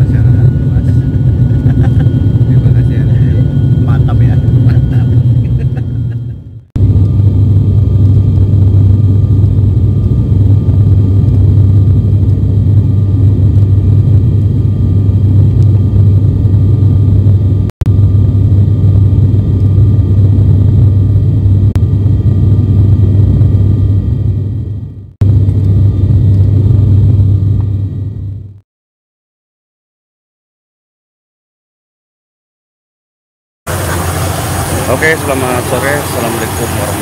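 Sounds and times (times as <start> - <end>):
turboprop airliner cabin drone: 0.0 - 28.6, 33.7 - 37.0.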